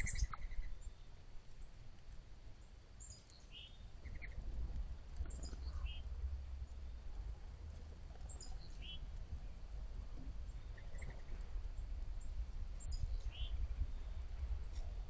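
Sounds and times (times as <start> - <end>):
birds chirping: 0.0 - 1.8, 2.6 - 4.5, 5.1 - 7.3, 8.1 - 15.0
low steady rumble: 0.0 - 15.0.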